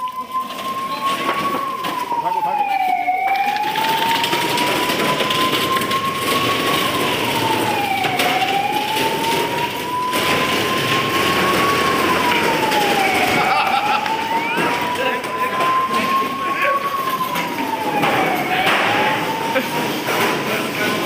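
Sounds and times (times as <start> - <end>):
ambulance siren wailing: 0.0 - 21.0
steady background noise: 0.0 - 21.0.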